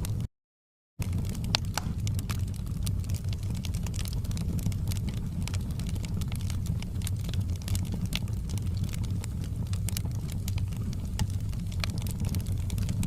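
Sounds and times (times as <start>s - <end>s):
fire crackling and popping: 0.0s - 0.3s, 1.0s - 13.0s
low rush of flames: 1.0s - 13.0s.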